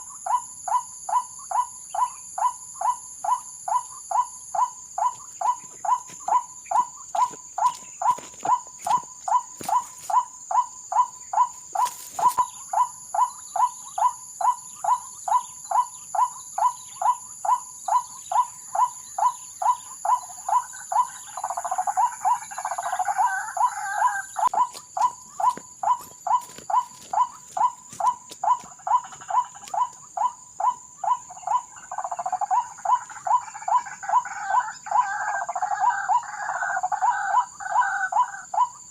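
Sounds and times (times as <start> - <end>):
bird lure call: 0.0 - 38.8
insects trilling: 0.0 - 38.9
rough dense bird calling: 0.0 - 38.9.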